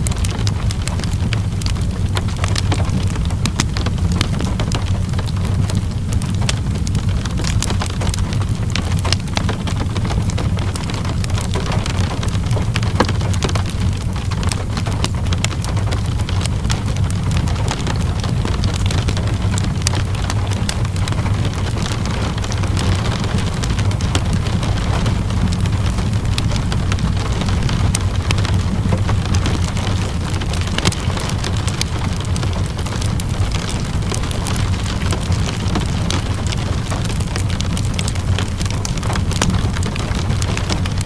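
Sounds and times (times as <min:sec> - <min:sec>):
steady rain: 0:00.0 - 0:41.0
wood fire crackling and popping: 0:00.0 - 0:41.0.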